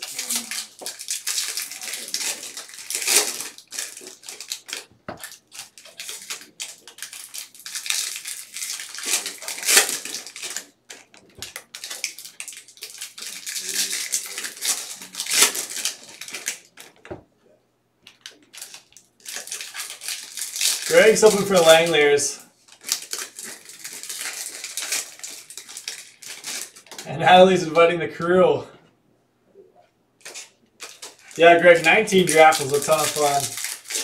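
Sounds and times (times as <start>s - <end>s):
foil wrappers crinkling and tearing: 0.0s - 17.1s, 18.1s - 27.1s, 30.2s - 34.0s.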